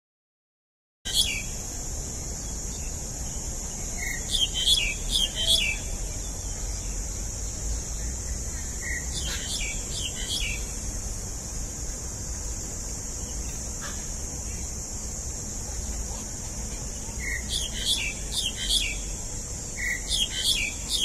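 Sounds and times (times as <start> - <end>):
high-pitched hiss: 1.1 - 21.0
small birds chirping: 1.1 - 21.0.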